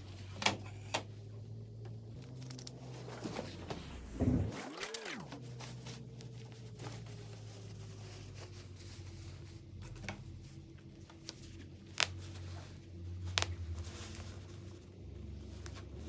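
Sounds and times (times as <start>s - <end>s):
steady low hum: 0.0s - 16.0s
cloth rustling: 2.2s - 16.0s.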